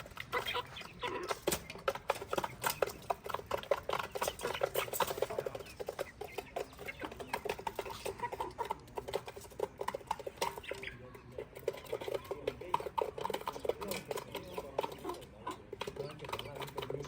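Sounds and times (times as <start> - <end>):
chicks pecking taps: 0.0 - 17.0.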